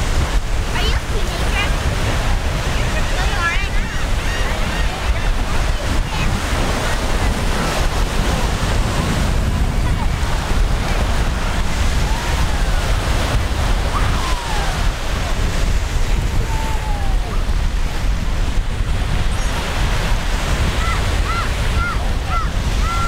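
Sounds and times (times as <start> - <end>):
surf washing ashore: 0.0 - 23.0
wind buffeting microphone: 0.0 - 23.0.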